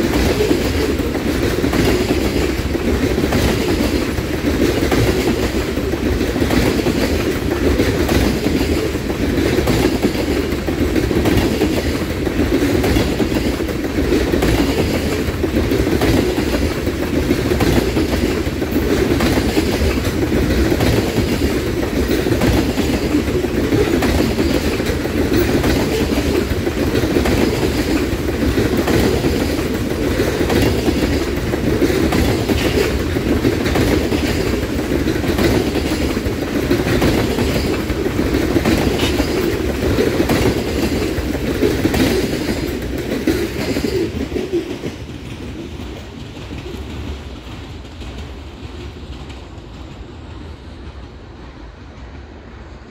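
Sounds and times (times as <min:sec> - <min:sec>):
wheels clicking over rail joints: 0:00.0 - 0:50.0
train wheels rumbling on rails: 0:00.0 - 0:52.9.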